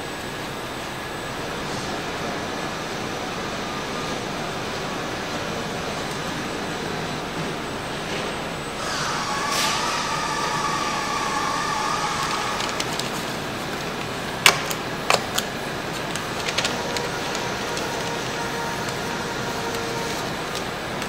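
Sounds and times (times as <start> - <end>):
wavering machine whine: 0.0 - 14.4, 15.6 - 21.0
steady hiss and hum: 0.0 - 21.0.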